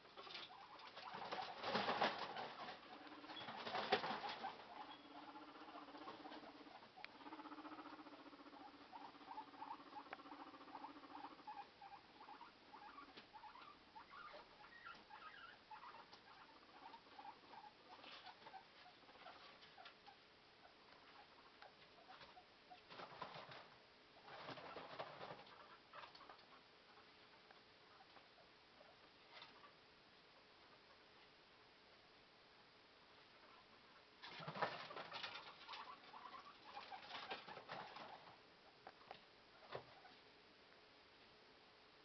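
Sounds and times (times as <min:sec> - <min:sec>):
guinea pigs squeaking: 0:00.0 - 0:29.8, 0:33.2 - 0:40.3.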